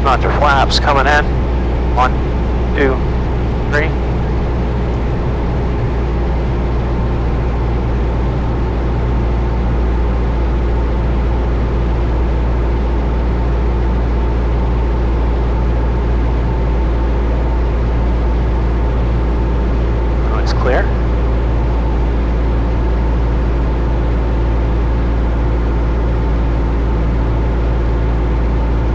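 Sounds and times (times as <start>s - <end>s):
propeller plane engine droning: 0.0s - 28.9s.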